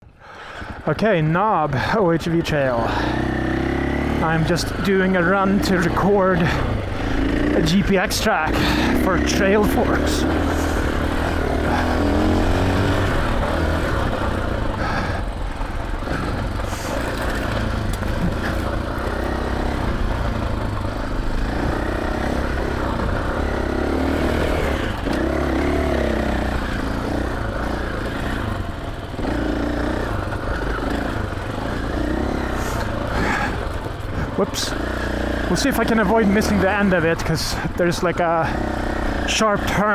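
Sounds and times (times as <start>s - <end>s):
dirt bike engine revving: 1.0s - 39.9s.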